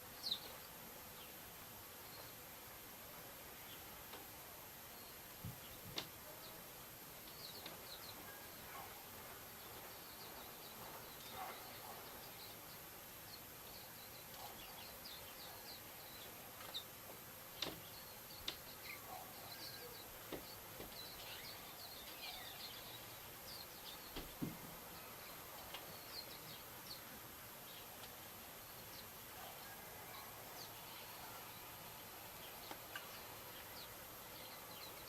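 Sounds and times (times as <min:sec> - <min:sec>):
outdoor hiss: 0:00.0 - 0:35.0
small birds chirping faintly: 0:00.0 - 0:35.0.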